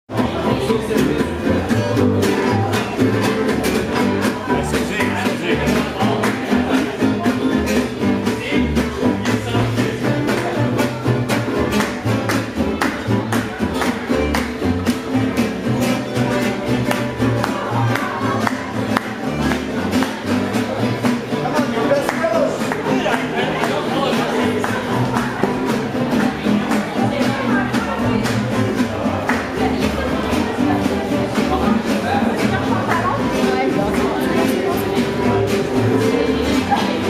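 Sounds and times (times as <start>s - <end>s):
low bass line: 0.1s - 37.0s
strummed acoustic guitars: 0.1s - 37.0s.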